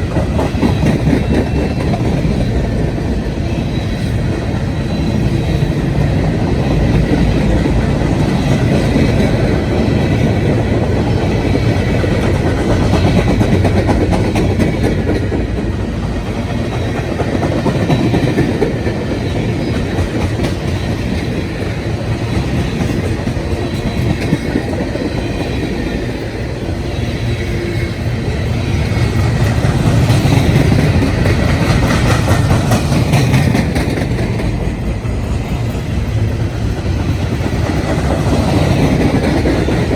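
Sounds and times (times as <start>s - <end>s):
freight train rolling past: 0.0s - 39.9s
train wheels on rails: 0.0s - 39.9s.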